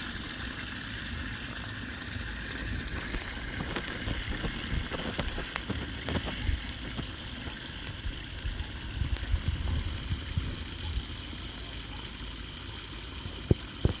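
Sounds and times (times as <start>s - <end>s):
water rushing into a drain: 0.0s - 14.0s.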